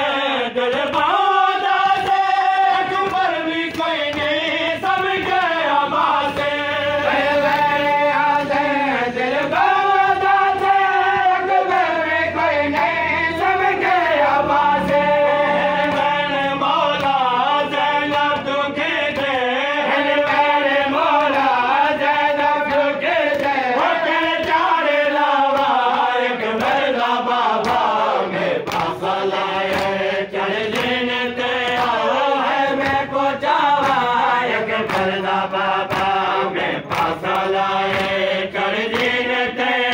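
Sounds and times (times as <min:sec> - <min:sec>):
men chanting together: 0:00.0 - 0:39.9.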